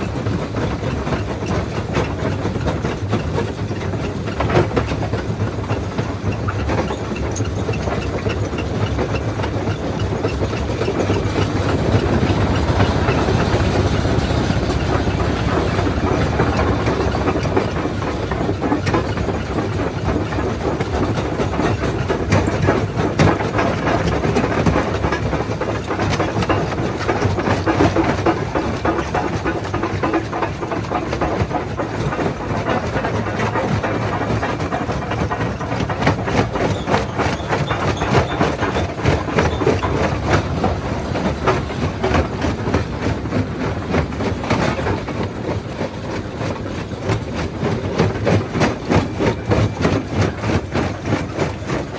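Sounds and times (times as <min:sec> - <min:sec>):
jaw crusher rumbling: 0:03.8 - 0:51.9.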